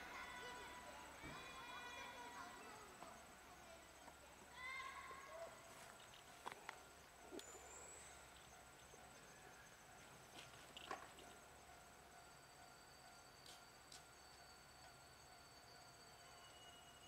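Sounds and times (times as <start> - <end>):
steady high-pitched whine: 0.0 - 17.0.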